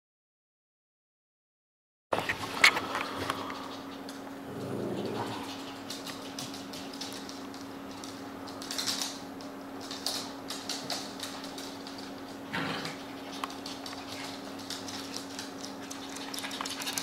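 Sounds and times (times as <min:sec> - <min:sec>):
dogs scuffling: 0:02.2 - 0:17.0
dog claws clicking on wood floor: 0:02.3 - 0:17.0.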